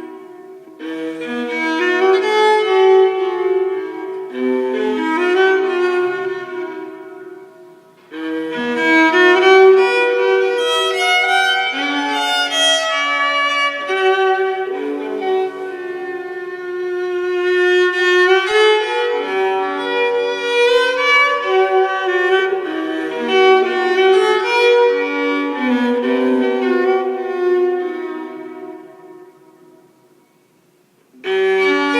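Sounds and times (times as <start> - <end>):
bowed string accompaniment: 0.0 - 29.7, 31.2 - 31.9
solo violin slow melody: 0.0 - 30.0, 31.1 - 31.9.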